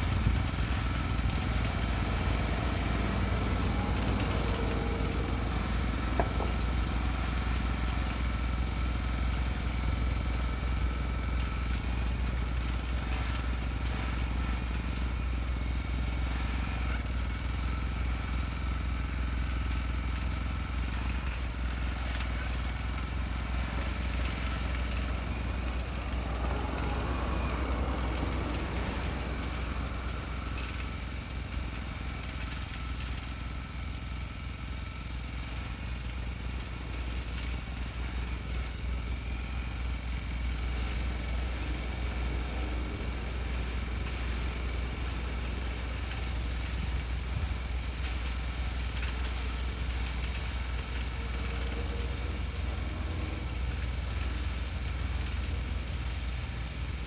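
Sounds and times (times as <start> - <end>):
small cultivator engine running: 0.0 - 57.0.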